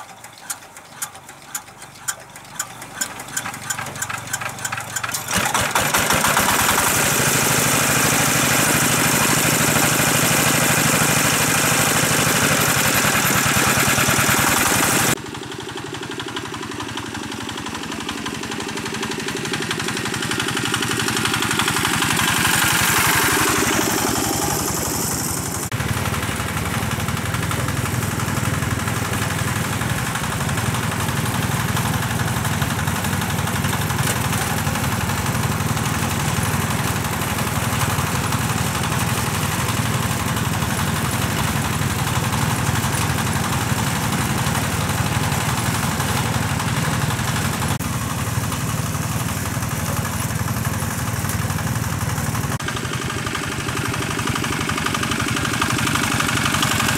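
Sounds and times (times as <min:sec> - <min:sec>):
water pump engine running: 0:00.0 - 0:56.9.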